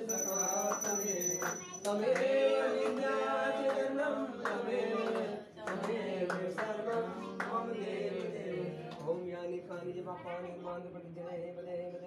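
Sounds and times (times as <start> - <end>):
voices singing devotional prayer: 0.0 - 12.0.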